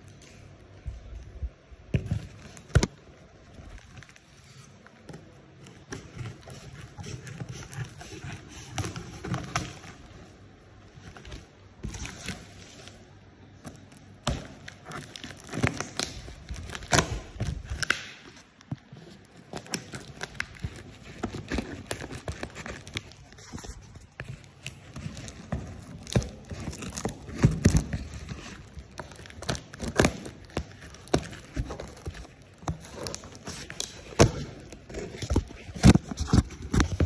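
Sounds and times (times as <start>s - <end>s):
packaging rustling and crinkling: 2.0s - 37.0s.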